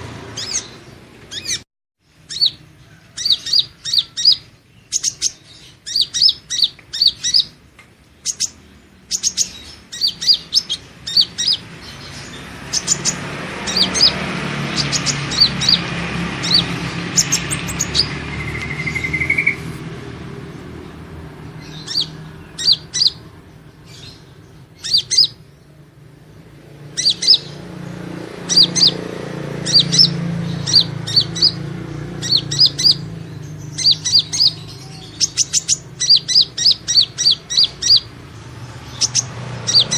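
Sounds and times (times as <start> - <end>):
sunbird chirps: 0.3 - 39.9
rushing background noise: 2.2 - 39.9.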